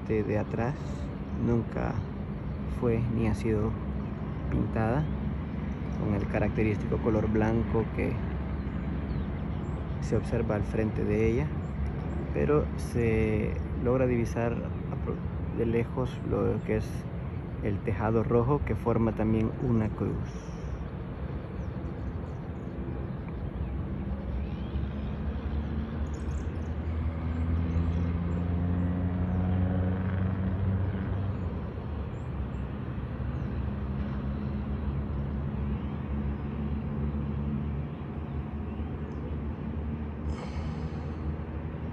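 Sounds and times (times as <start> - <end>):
motor vehicle engine drone: 0.0 - 41.9.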